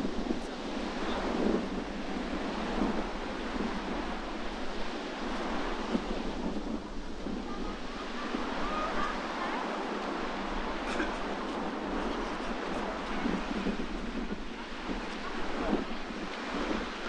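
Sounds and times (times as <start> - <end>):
sea waves washing on shore: 0.0 - 17.0
wind blustering on microphone: 0.0 - 17.0.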